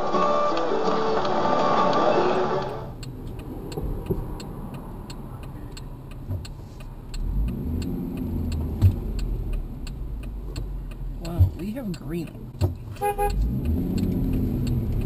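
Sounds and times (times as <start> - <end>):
car engine idling: 1.3 - 15.0
faint even ticking: 2.9 - 15.0.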